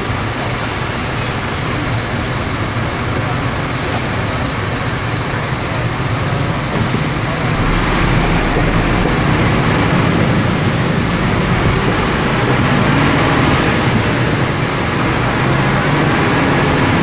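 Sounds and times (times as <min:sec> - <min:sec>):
diesel truck engine drone: 0:02.9 - 0:17.0.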